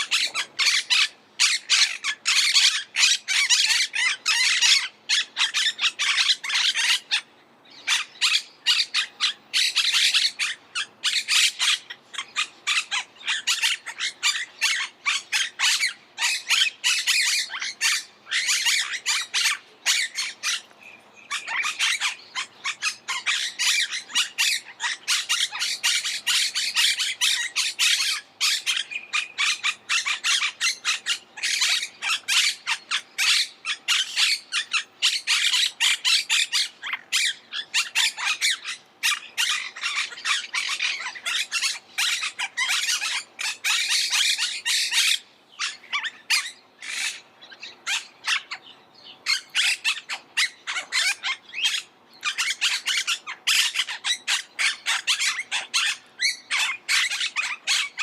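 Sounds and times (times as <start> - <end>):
parakeets squawking: 0.0 - 58.0.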